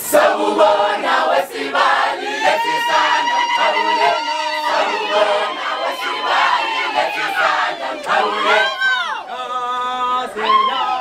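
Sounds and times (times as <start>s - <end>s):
women singing together: 0.0s - 9.4s
crowd: 0.0s - 11.0s.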